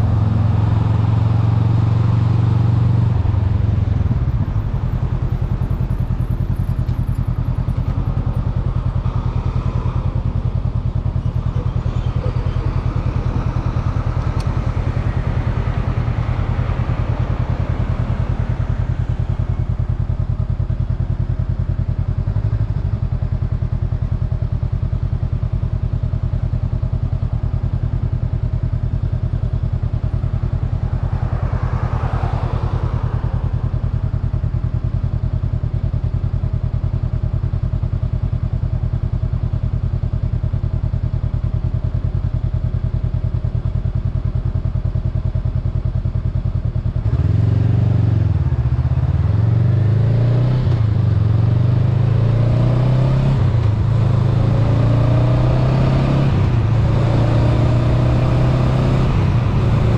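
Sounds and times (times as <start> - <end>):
motorcycle engine idling: 0.0 - 54.5
motorcycle accelerating through gears: 0.0 - 59.9.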